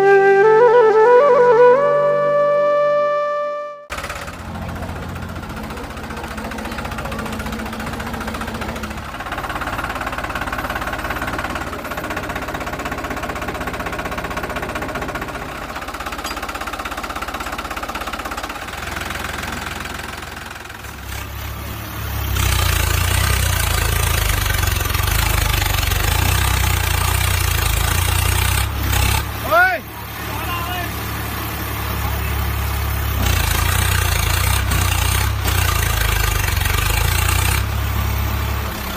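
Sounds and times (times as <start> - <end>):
tractor engine knocking: 3.9 - 38.9.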